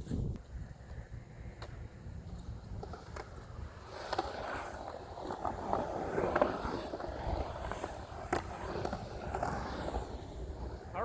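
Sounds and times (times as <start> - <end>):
skateboard wheels rolling on concrete: 0.0 - 11.0
skateboard clack: 0.6 - 10.9.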